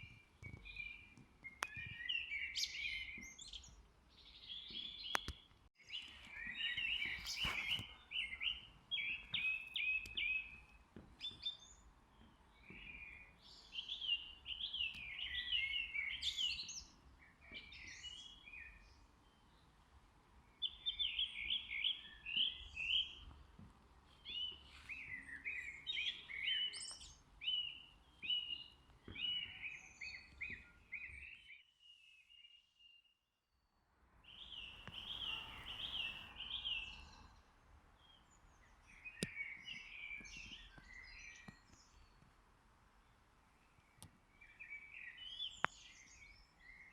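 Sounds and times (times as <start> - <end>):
songbirds chirping: 0.0 - 46.9.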